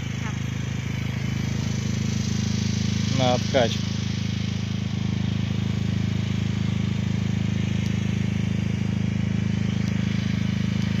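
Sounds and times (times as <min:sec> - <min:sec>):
motor running with low hum: 0:00.0 - 0:11.0.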